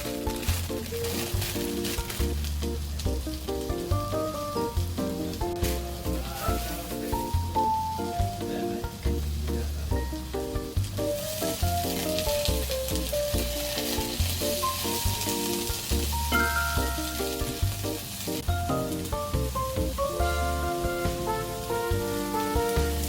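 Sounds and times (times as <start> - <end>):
background music with bass: 0.0 - 23.0
food sizzling in a pan: 0.0 - 23.0.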